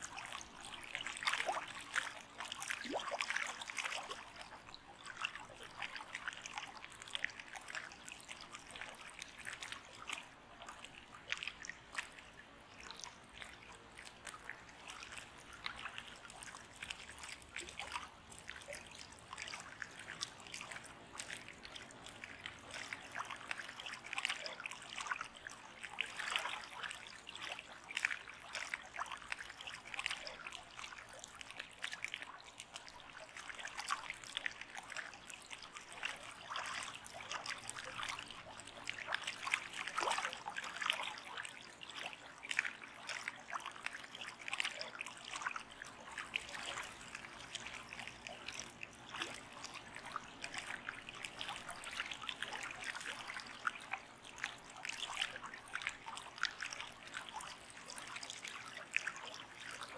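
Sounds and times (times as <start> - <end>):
water trickling and babbling: 0.0 - 59.9.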